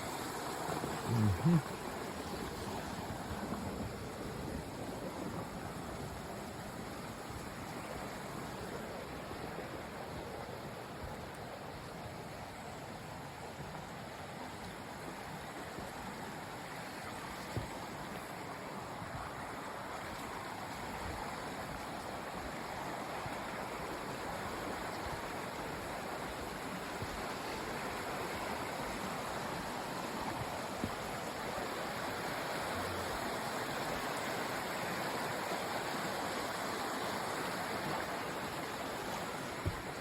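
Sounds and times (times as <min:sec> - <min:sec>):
creek water rushing over rocks: 0:00.0 - 0:40.0.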